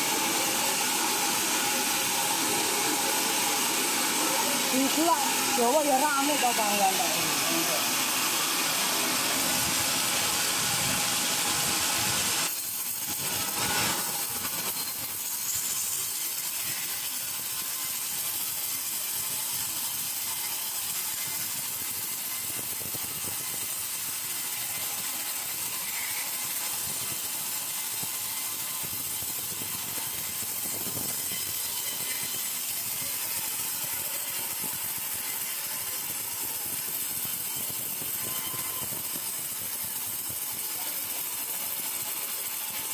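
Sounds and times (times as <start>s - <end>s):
sawmill machinery hissing: 0.0s - 42.9s.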